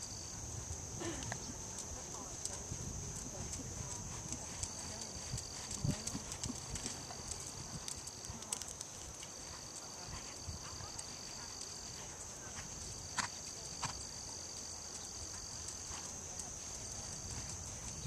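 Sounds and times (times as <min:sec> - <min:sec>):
horse hoofbeats on sand: 0:01.8 - 0:18.0.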